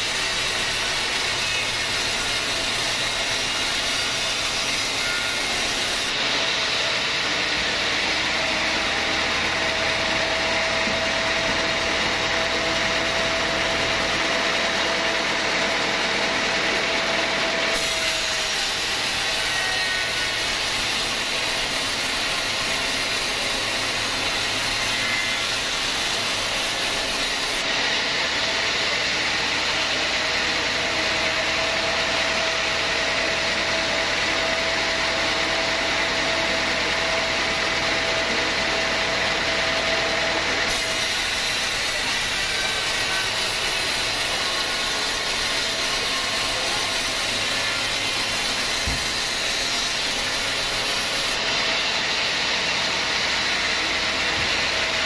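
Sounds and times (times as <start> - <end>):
band sawmill sawing log: 0.0 - 55.0
thin saw whine: 0.0 - 55.0.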